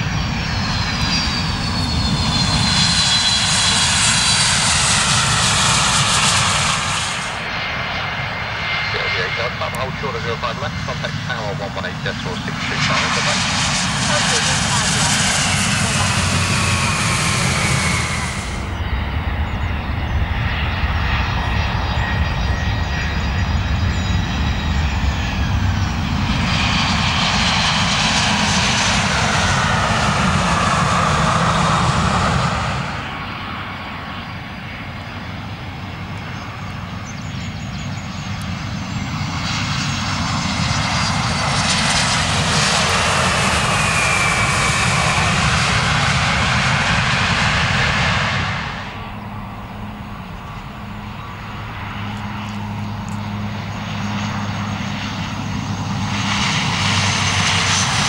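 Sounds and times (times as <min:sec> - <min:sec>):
jet engine whine: 0:00.0 - 0:58.0.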